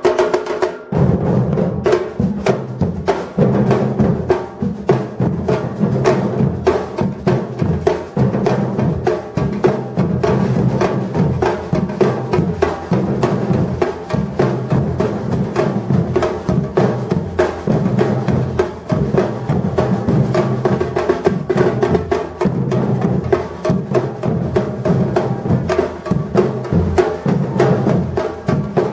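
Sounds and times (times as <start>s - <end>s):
drum ensemble playing: 0.0s - 28.9s.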